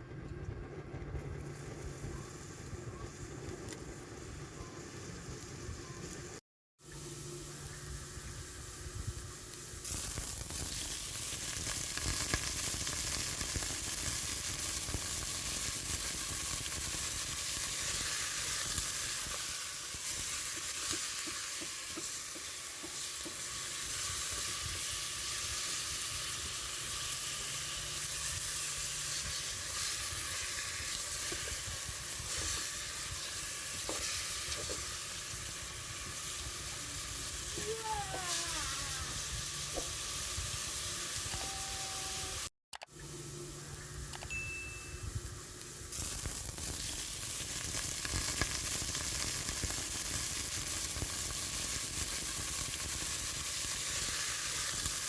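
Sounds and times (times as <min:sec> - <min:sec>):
food sizzling in hot oil: 0:01.4 - 0:42.5, 0:44.3 - 0:55.0.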